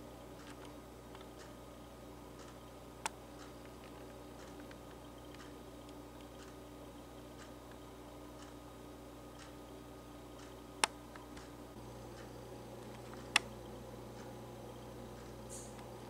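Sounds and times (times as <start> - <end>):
low steady hum: 0.0 - 16.0
faint regular ticking: 0.1 - 15.9.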